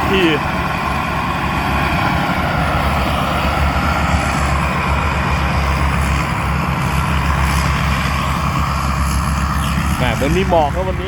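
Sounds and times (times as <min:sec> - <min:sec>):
combine harvester engine rumble: 0:00.0 - 0:11.0.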